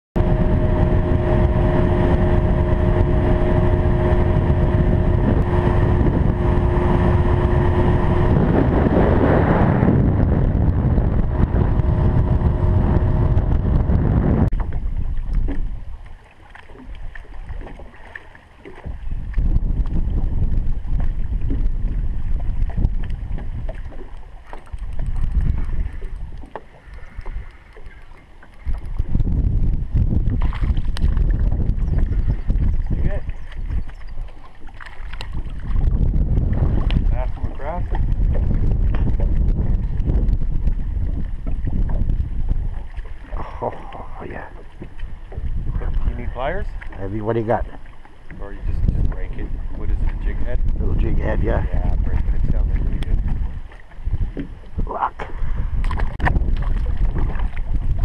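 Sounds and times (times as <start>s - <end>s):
wind buffeting microphone: 0.2s - 16.1s, 18.7s - 58.0s
outboard motor running: 0.2s - 58.0s.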